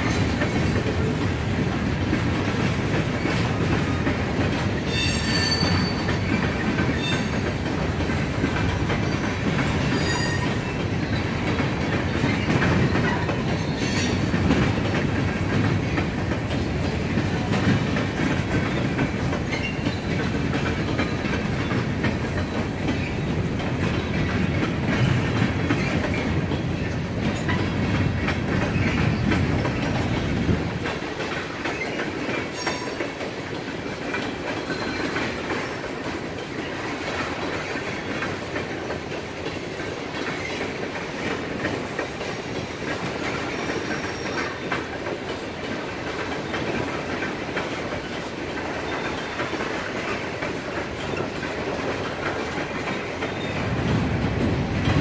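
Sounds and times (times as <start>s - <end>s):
deep train rumble: 0.0s - 55.0s
freight train wheels clacking: 0.0s - 55.0s.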